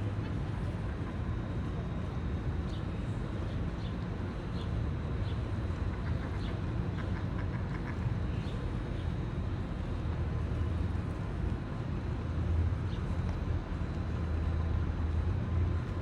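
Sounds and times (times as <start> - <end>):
low motor rumble: 0.0 - 16.0.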